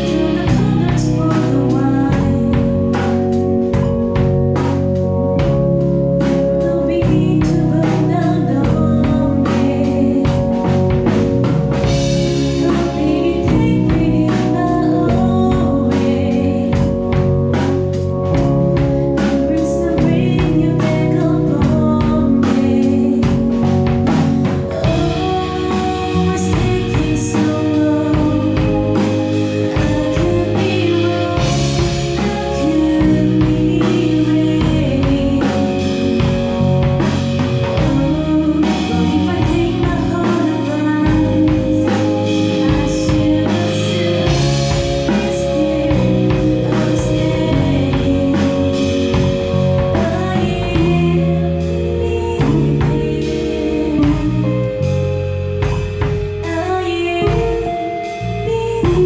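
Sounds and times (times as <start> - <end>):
woman singing: 0.0 - 4.8, 5.6 - 59.0
drums: 0.0 - 59.0
electric guitars: 0.0 - 59.0
keyboard: 0.0 - 59.0.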